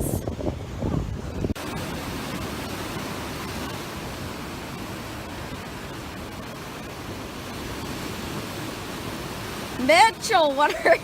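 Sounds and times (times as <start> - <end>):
surf washing against rocks: 0.0 - 11.0.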